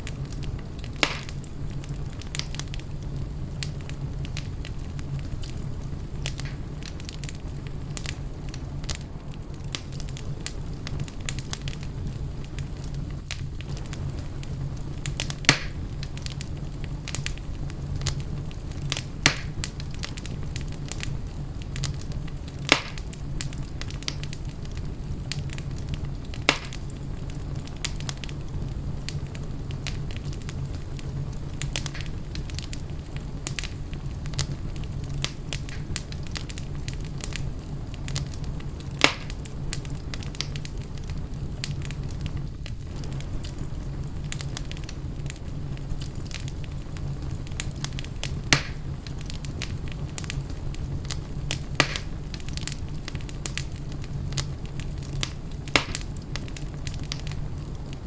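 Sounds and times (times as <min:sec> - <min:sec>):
fire crackling in fireplace: 0:00.0 - 0:58.0
loud fire pops: 0:00.0 - 0:58.0.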